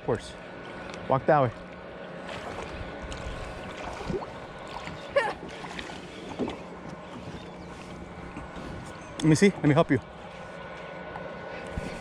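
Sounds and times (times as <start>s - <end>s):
distant motorboat engine drone: 0.0s - 12.0s.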